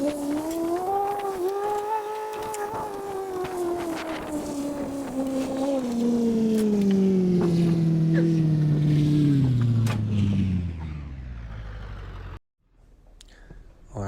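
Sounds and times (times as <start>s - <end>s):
vehicle engine slowing down: 0.0s - 12.4s.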